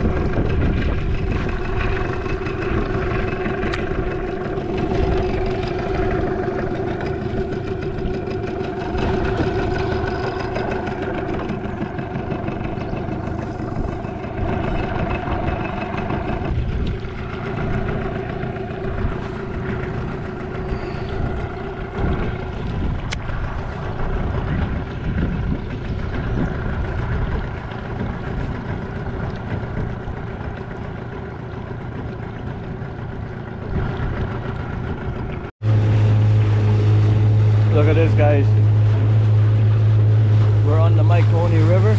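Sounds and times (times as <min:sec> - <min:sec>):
outboard motor humming: 0:00.0 - 0:41.9.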